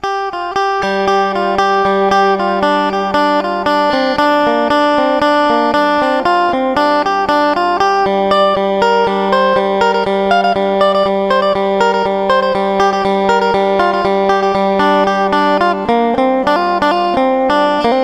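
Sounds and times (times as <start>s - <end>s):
plucked lute notes over drone: 0.0s - 18.0s.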